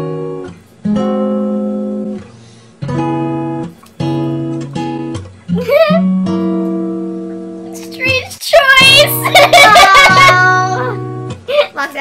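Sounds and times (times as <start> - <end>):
acoustic guitar strumming chords: 0.0 - 11.5.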